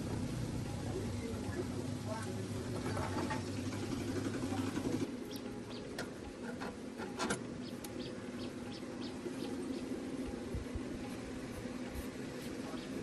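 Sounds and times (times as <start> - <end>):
low steady hum: 0.0 - 13.0
small birds chirping: 0.6 - 13.0.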